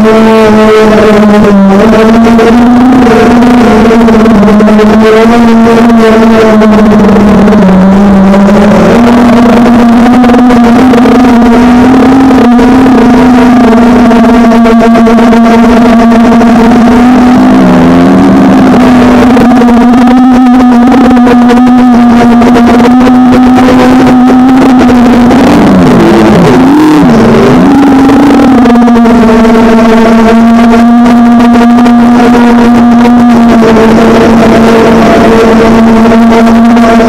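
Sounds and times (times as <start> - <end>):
drone motors and propellers whining: 0.0 - 37.0.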